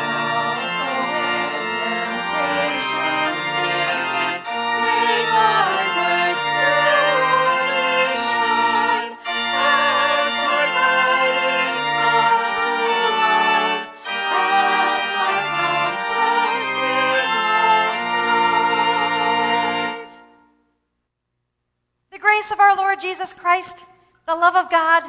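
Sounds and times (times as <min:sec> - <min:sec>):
organ playing hymn chords: 0:00.0 - 0:20.6.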